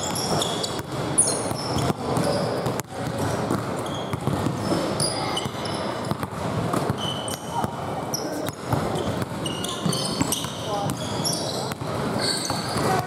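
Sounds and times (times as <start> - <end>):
basketball bouncing on wood floor: 0.0 - 7.8, 8.4 - 13.0
sneaker squeaks: 0.0 - 13.0.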